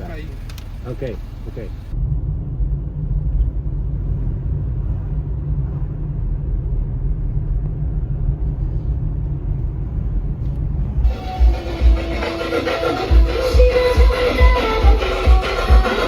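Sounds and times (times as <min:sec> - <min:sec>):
car driving on road: 0:00.0 - 0:16.0.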